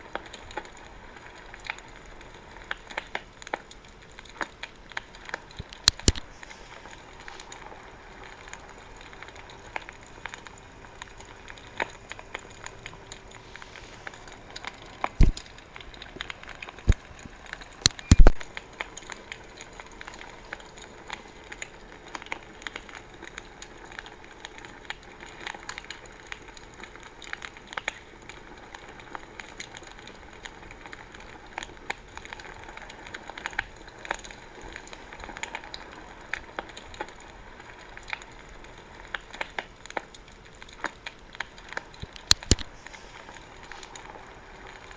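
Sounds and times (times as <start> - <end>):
bonfire crackling and popping: 0.0 - 44.9.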